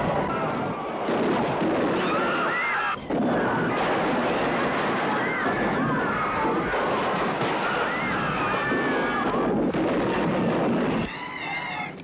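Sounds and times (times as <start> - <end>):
people screaming: 0.0 - 1.1, 1.9 - 12.0
explosion and crashing debris: 0.0 - 11.1
wind whistling: 0.0 - 12.0.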